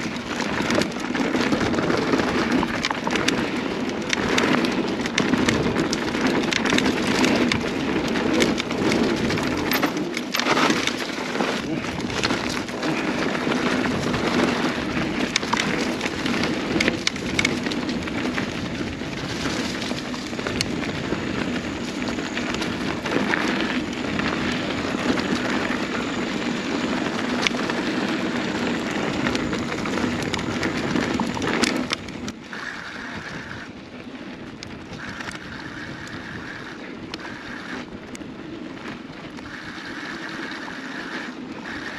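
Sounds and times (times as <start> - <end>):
bike rattle: 0.0 - 41.9
bike tyres rolling over dirt: 0.0 - 41.9
sharp ticks from trail bumps: 0.0 - 41.9.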